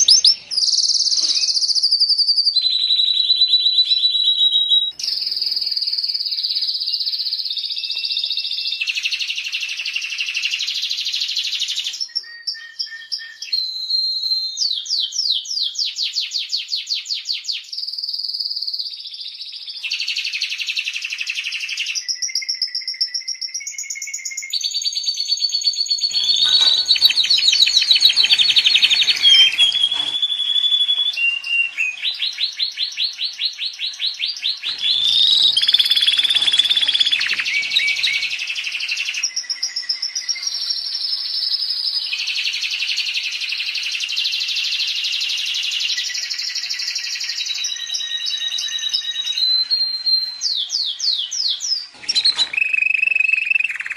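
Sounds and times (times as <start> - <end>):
canary singing: 0.0 - 15.7, 26.0 - 53.9.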